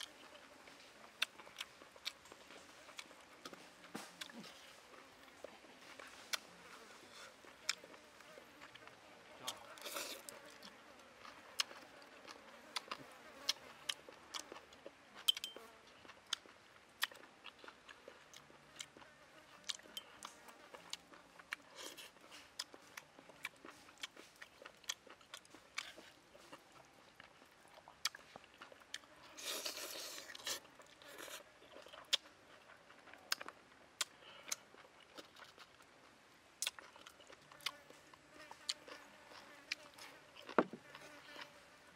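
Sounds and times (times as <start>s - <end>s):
person chewing noodles: 0.0s - 41.6s.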